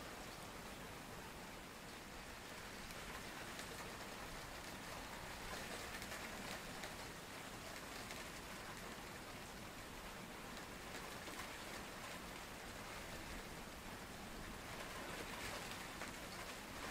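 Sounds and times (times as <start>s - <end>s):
rain falling on a pond: 0.0s - 16.9s.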